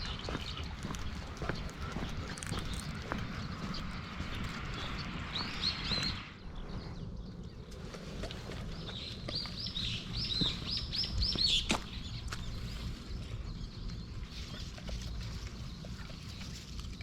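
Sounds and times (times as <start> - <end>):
bird chirping: 0.0 - 16.8.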